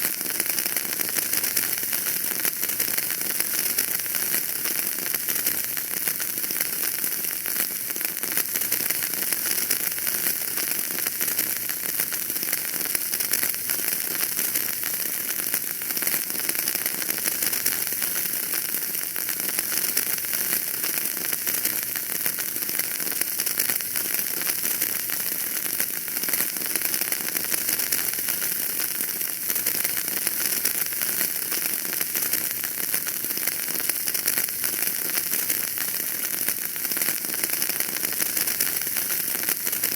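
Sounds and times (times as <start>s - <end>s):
wood fire crackling and hissing: 0.1s - 39.9s.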